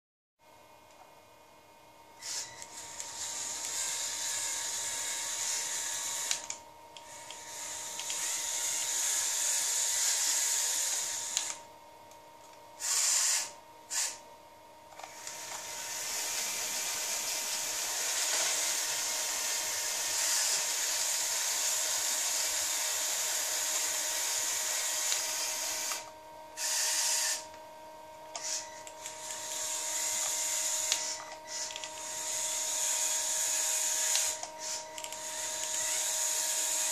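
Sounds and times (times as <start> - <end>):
electric motors whirring: 2.2 - 11.7, 12.8 - 14.3, 14.9 - 27.6, 28.2 - 36.9.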